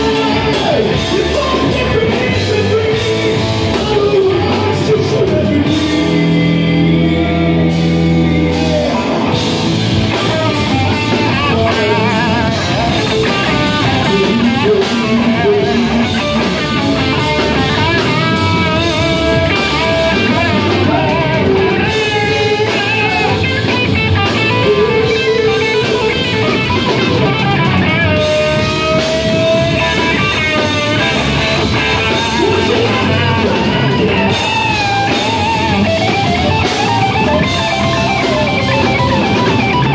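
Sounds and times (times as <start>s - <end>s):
electric guitar solo: 0.0s - 39.9s
live rock band playing: 0.0s - 39.9s
person singing: 0.0s - 39.9s.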